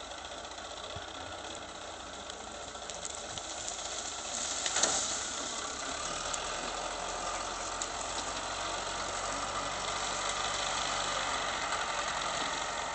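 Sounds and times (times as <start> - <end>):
constant hiss: 0.0 - 12.9
loader diesel engine running: 0.0 - 12.9.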